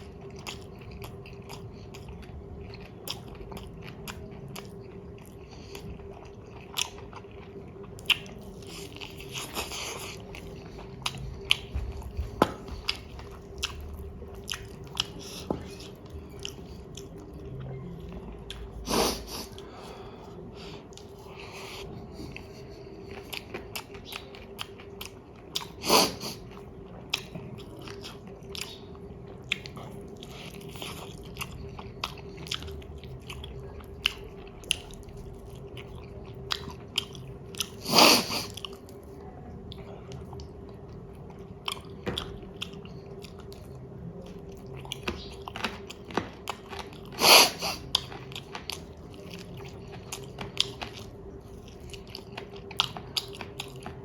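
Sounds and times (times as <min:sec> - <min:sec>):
chewing food: 0:00.0 - 0:54.0
faint steady hum: 0:00.0 - 0:54.0.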